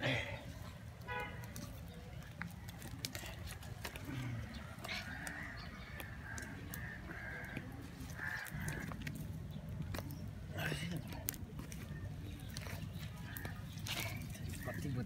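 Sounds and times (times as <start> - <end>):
twig fire crackling and popping: 0.5 - 15.0.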